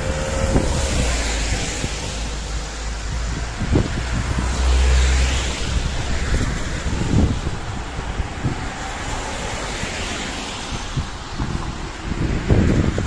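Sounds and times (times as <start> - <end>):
cars passing on wet road: 0.0 - 13.0.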